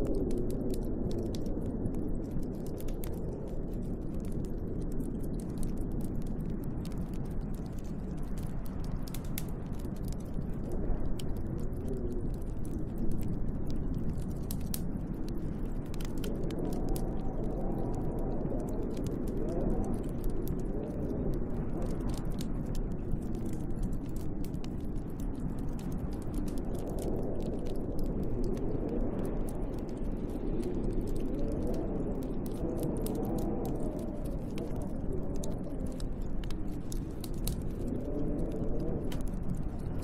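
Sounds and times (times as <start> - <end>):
wind rushing and howling: 0.0 - 40.0
wood fire crackling: 0.0 - 40.0.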